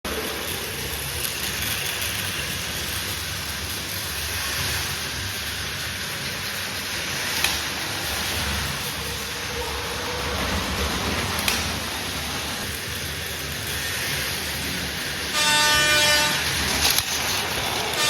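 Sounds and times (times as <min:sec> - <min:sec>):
toy train whirring rattle: 0:00.1 - 0:18.0.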